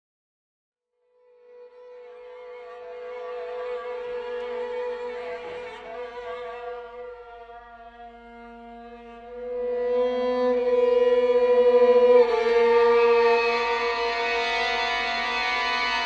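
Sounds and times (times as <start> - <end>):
sustained bowed strings: 1.3 - 16.0.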